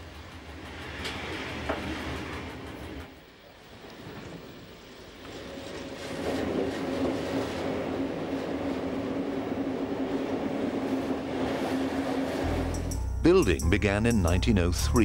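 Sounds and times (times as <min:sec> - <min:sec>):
train wheel and running noise: 0:00.0 - 0:13.0.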